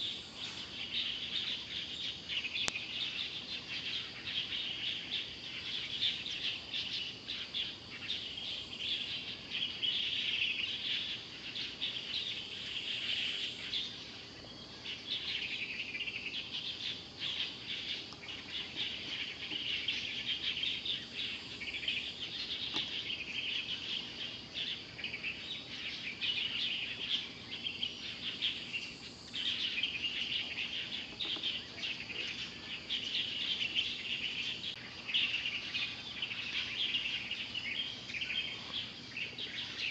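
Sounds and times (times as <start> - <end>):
birds chirping: 0.0 - 39.9
insects chirping: 0.0 - 39.9.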